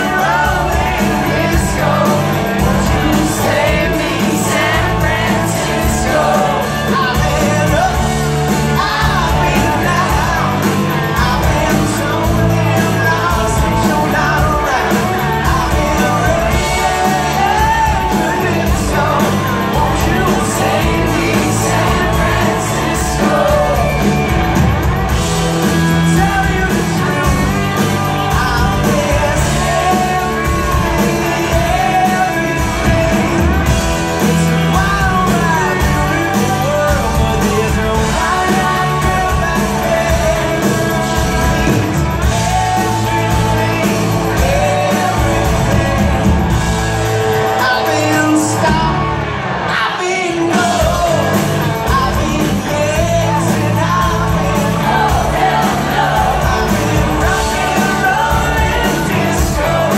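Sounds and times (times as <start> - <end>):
live pop-rock band playing: 0.0 - 59.9
man singing lead vocals: 0.0 - 59.9.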